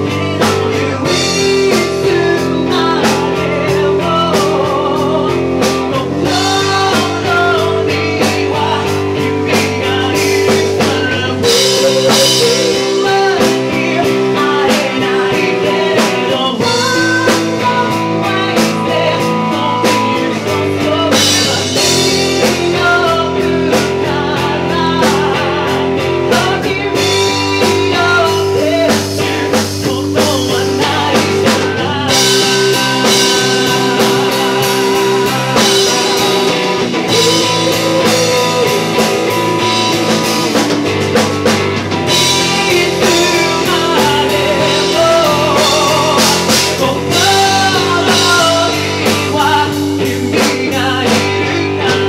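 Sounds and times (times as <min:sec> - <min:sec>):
man singing into microphone: 0:00.0 - 0:40.8, 0:42.0 - 0:52.0
amplified electric guitar: 0:00.0 - 0:52.0.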